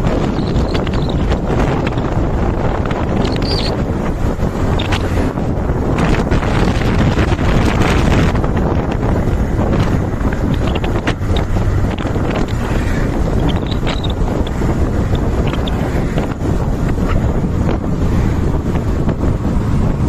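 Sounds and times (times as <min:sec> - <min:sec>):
wind buffeting microphone: 0:00.0 - 0:20.0
heavy diesel engine running: 0:00.9 - 0:20.0.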